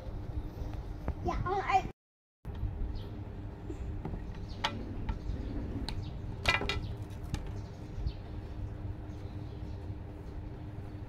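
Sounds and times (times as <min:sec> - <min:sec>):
steady low hum: 0:00.0 - 0:01.9, 0:02.5 - 0:11.0.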